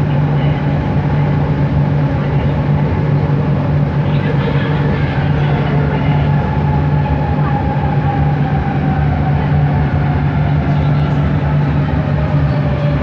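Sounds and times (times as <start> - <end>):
metro train motor hum and whine: 0.0 - 13.0.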